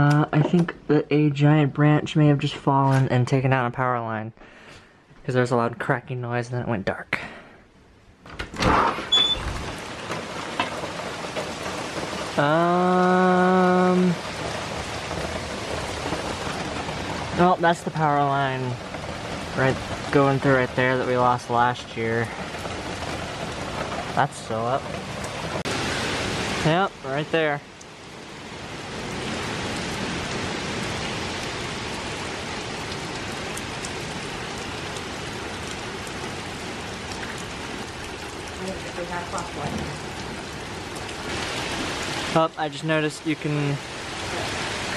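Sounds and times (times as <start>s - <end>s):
heavy rain falling: 8.5s - 44.9s.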